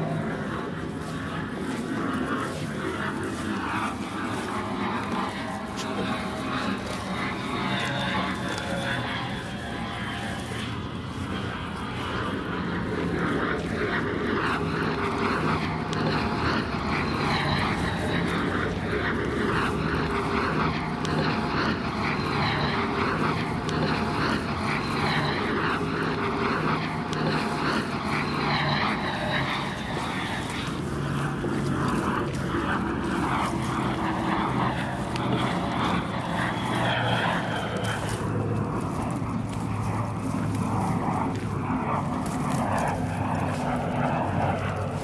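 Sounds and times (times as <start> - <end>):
small motor pulsing: 0.0 - 45.0.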